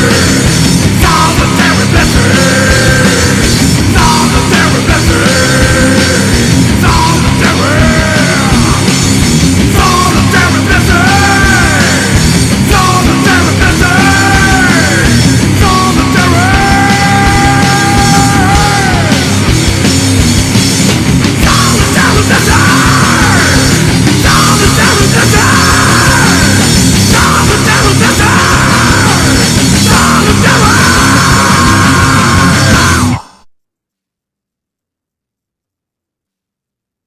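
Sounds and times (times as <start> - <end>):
loud heavy rock music: 0.0 - 33.4.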